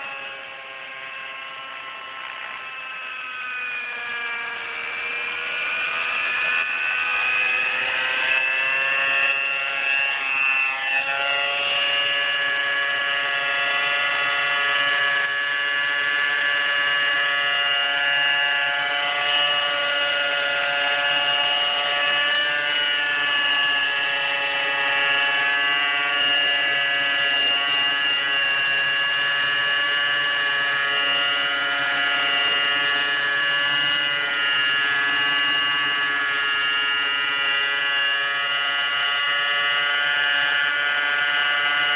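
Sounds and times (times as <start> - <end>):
rc helicopter engine whining: 0.0 - 41.9.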